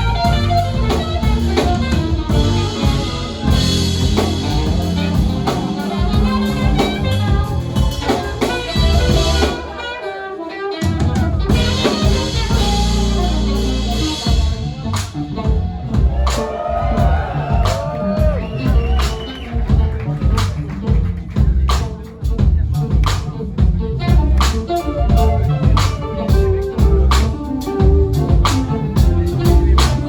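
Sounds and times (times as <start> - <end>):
bass: 0.0 - 9.8, 10.8 - 30.0
drum kit with rimshots: 0.0 - 9.9, 10.8 - 30.0
keyboards: 0.0 - 30.0
saxophone: 0.0 - 30.0.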